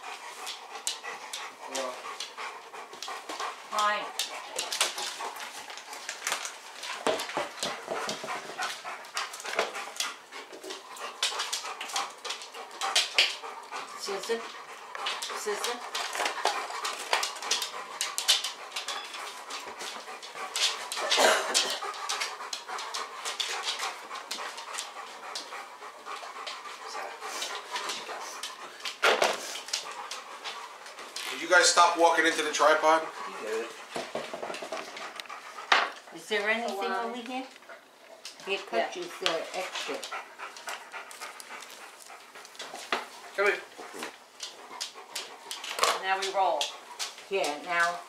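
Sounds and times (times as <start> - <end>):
dog panting and snuffling: 0.0 - 48.0.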